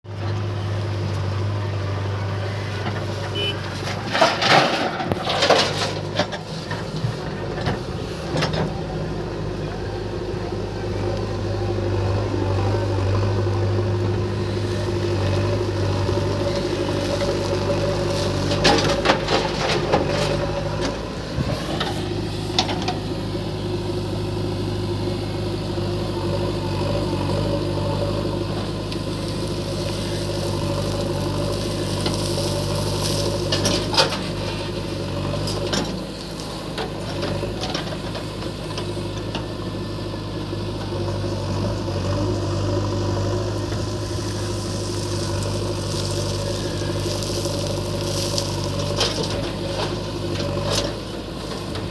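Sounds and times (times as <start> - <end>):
diesel engine under load: 0.0 - 51.9.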